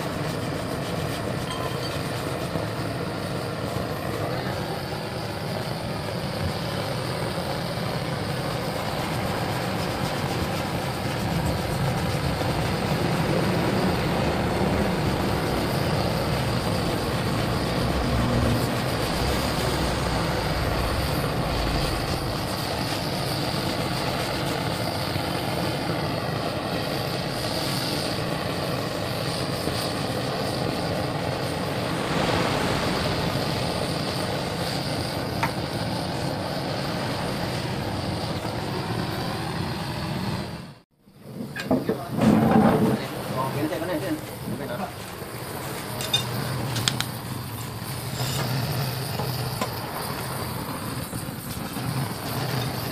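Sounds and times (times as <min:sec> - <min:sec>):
gas torch flame rushing: 0:00.0 - 0:52.9.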